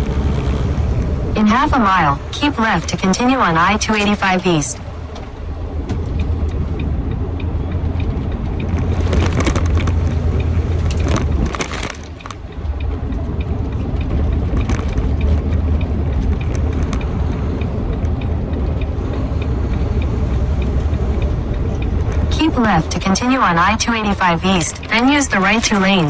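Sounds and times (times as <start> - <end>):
truck driving drone: 0.0 - 26.0
faint regular ticking: 1.4 - 26.0
crackling clicks: 5.1 - 26.0.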